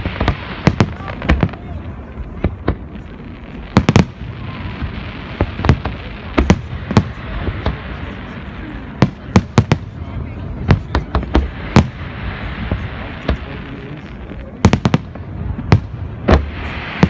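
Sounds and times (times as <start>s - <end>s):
crowd: 0.0s - 17.0s
fireworks bangs: 0.0s - 17.0s
fireworks rumble and crackle: 0.0s - 17.0s.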